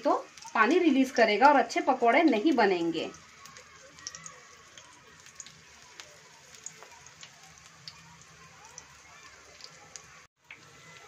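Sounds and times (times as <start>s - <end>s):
batter frying in oil sizzling: 0.0s - 11.0s
oil popping and crackling: 0.0s - 11.0s.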